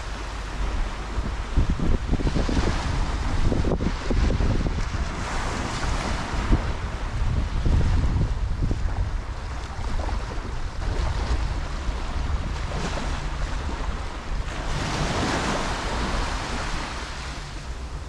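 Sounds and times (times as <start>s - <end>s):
wind buffeting microphone: 0.0s - 18.0s
surf breaking on beach: 1.1s - 17.5s.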